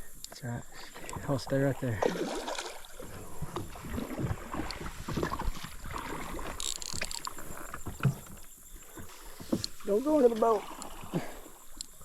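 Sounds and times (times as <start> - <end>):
water splashing against boat: 0.7 - 12.0.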